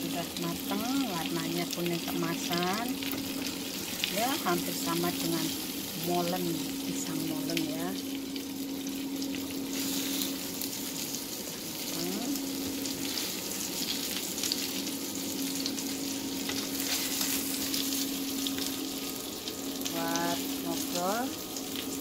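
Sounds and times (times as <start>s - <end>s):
fritters sizzling in oil: 0.0s - 22.0s
spatula turning food in pan: 0.0s - 22.0s.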